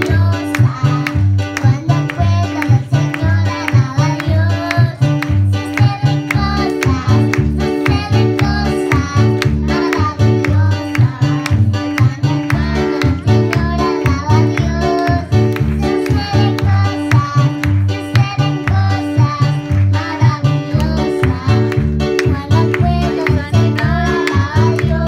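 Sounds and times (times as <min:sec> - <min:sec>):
accompaniment music with bass: 0:00.0 - 0:25.0
girl singing: 0:00.0 - 0:25.0.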